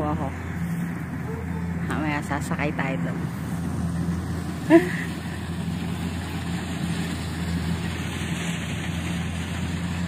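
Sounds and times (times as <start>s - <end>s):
harvester engine drone: 0.0s - 10.0s.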